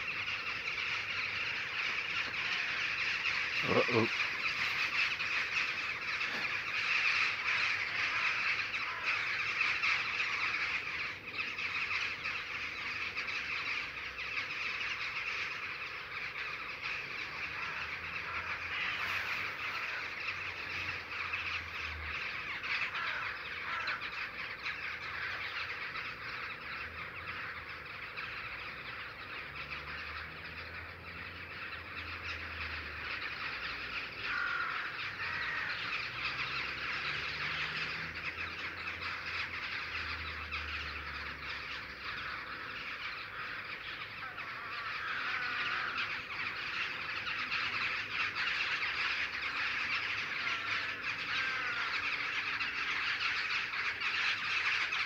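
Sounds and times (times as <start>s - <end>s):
flock of birds calling: 0.0s - 55.0s.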